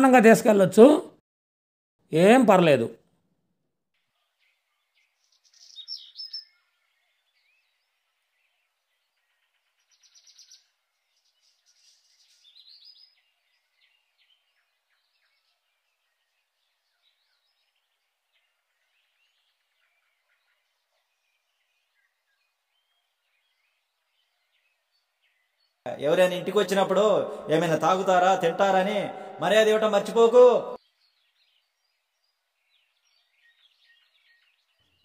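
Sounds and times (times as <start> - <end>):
small birds chirping: 4.0 - 35.0.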